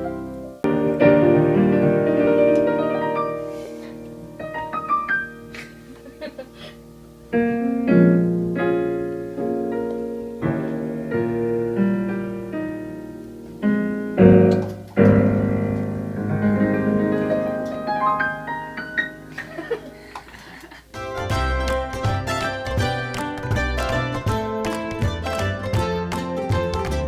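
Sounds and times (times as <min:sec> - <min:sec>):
gentle piano music: 0:00.0 - 0:20.0, 0:20.9 - 0:27.0.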